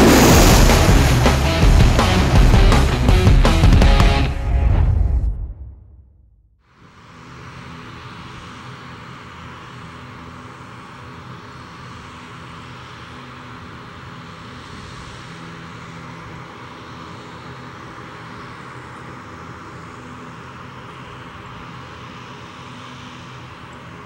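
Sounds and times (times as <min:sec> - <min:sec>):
airliner jet engines on approach: 0:00.0 - 0:05.6, 0:06.7 - 0:24.0.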